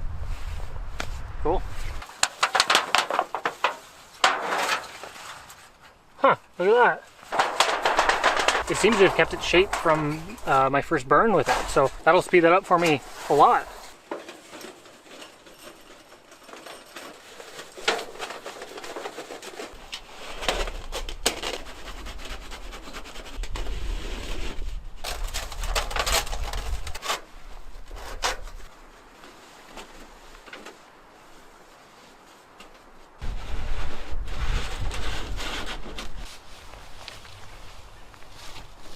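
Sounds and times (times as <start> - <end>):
rustling of gear: 7.1 - 38.9.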